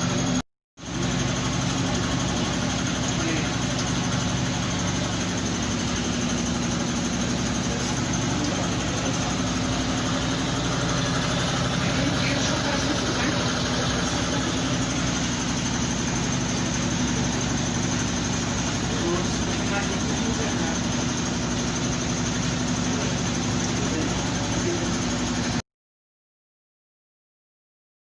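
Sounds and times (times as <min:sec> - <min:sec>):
washing machine churning: 0:00.0 - 0:25.6
washing machine motor hum: 0:00.0 - 0:25.6.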